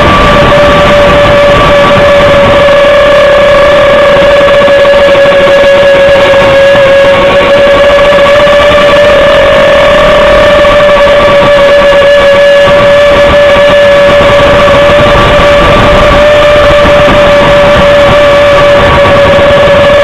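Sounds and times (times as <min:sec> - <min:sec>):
drone propellers humming: 0:00.0 - 0:20.0
wind buffeting microphone: 0:00.0 - 0:20.0.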